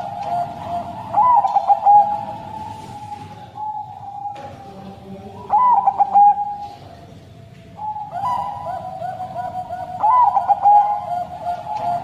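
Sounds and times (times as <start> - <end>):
dove cooing song: 0.0 - 7.0, 7.8 - 12.0.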